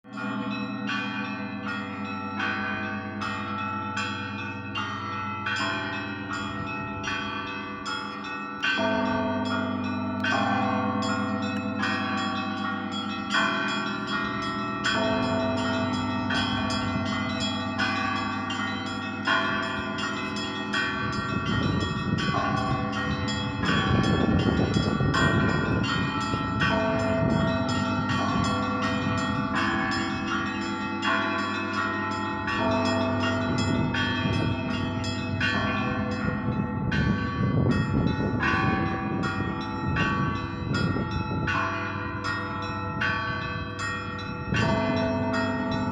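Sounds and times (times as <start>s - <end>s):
large bells ringing: 0.0s - 45.9s.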